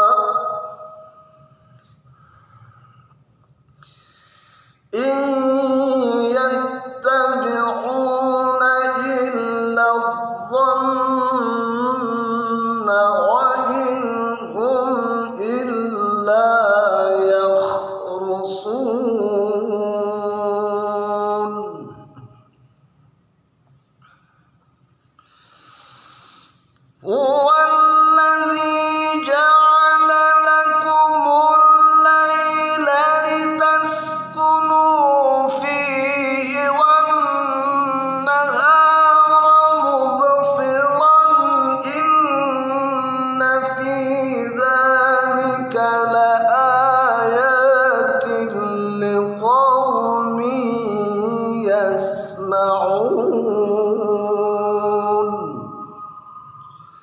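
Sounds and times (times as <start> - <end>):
man chanting melodic recitation: 0.0 - 1.5, 4.9 - 22.4, 27.0 - 57.0.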